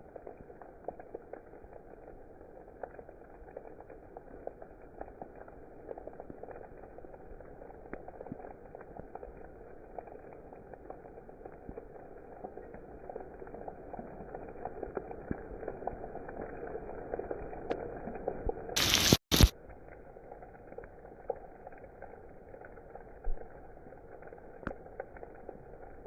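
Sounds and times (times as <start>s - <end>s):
raindrops ticking: 0.0s - 26.0s
steady rainfall: 0.0s - 26.0s.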